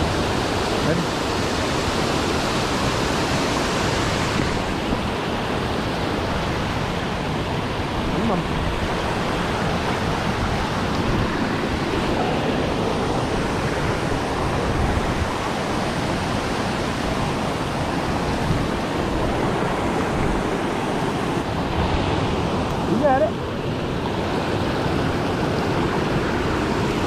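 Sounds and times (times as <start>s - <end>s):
waterfall rushing over rocks: 0.0s - 27.0s.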